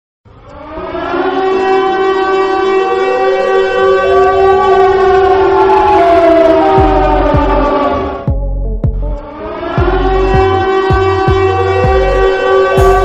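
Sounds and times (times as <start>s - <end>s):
siren wailing: 0.3s - 8.3s, 9.1s - 13.0s.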